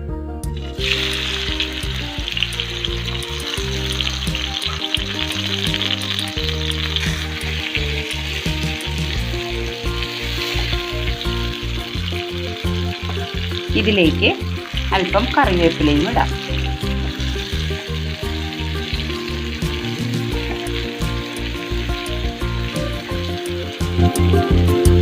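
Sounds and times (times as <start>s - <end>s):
instrumental background music: 0.0s - 25.0s
tomatoes sizzling in oil: 0.5s - 25.0s.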